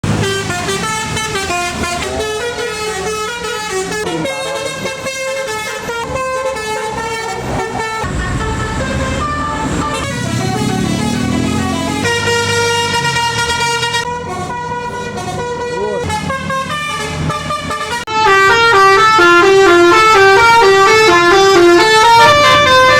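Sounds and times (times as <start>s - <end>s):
bus engine revving: 0.0s - 22.9s
bus musical horn melody: 0.0s - 22.9s.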